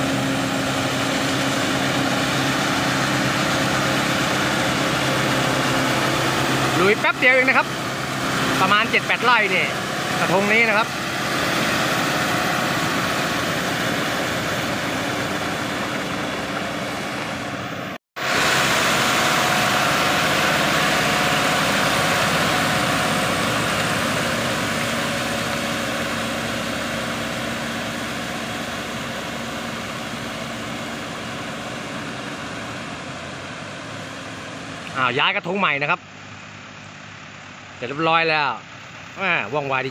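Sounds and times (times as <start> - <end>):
tracks and tiller churning wet mud: 0.0 - 39.9
tractor diesel engine running: 0.0 - 39.9.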